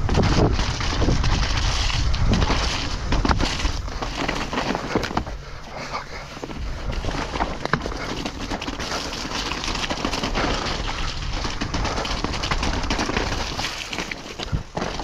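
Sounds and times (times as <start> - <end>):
bike rattling over bumps: 0.0 - 15.0
bike tyres running through mud: 0.0 - 15.0
wind rumbling on microphone: 0.0 - 15.0.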